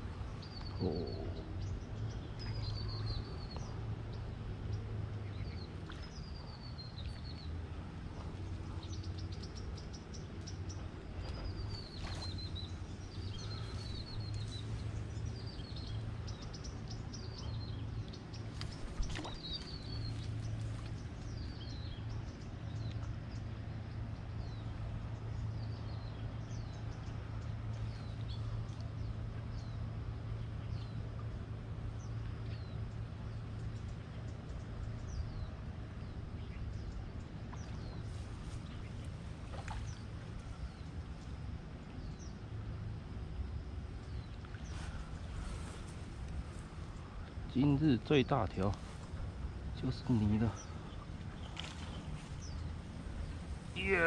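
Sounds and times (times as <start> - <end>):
songbird chirping: 0.0 - 54.0
steady low hum: 0.0 - 54.0.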